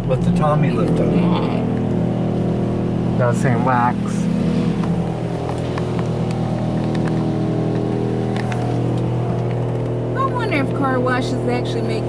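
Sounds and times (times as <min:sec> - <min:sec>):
car wash machinery humming: 0:00.0 - 0:12.0.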